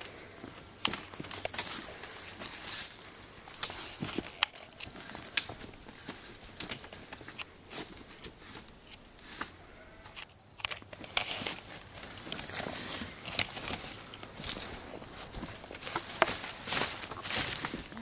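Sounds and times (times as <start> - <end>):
twigs and leaves crackling: 0.0 - 18.0.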